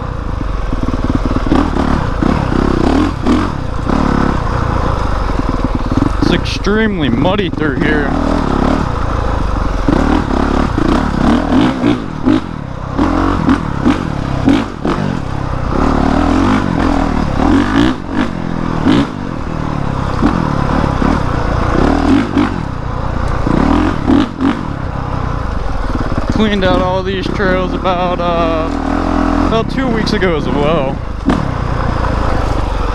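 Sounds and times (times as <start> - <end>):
engine knocks and clatter: 0.0 - 32.9
motorcycle engine revving: 0.0 - 32.9.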